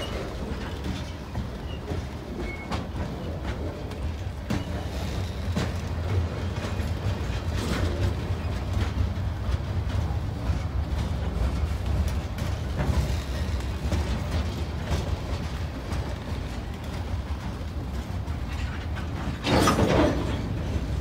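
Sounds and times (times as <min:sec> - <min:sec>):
freight train rumbling past: 0:00.0 - 0:21.0
wheels clicking on rails: 0:00.0 - 0:21.0.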